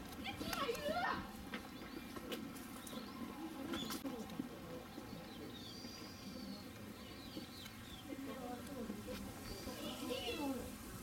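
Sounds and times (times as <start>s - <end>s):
low background murmur: 0.0s - 11.0s.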